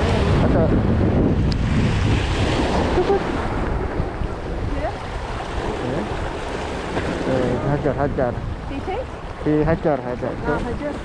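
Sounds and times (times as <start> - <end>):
sea waves washing on shore: 0.0 - 11.0
wind buffeting microphone: 0.0 - 11.0.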